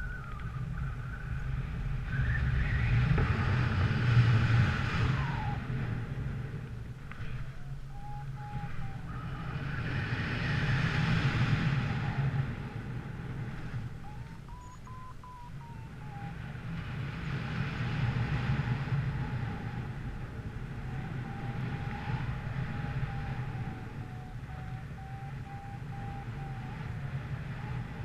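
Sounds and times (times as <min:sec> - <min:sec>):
faint thin whine: 0:00.0 - 0:28.0
steady low rumble: 0:00.0 - 0:28.0
wind buffeting microphone: 0:00.0 - 0:28.0.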